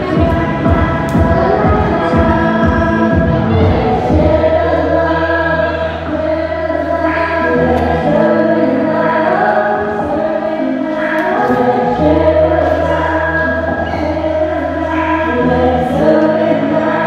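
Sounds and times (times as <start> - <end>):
backing music with bass: 0.0 - 17.0
group singing a praise song: 0.0 - 17.0.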